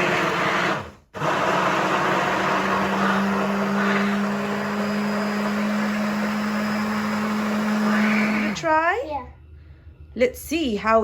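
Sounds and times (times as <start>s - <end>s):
electric blender running: 0.0s - 8.9s.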